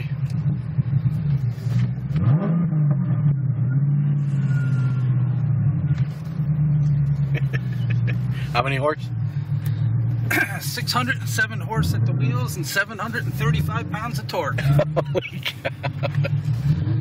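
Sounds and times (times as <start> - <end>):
car engine running from inside cabin: 0.0 - 17.0.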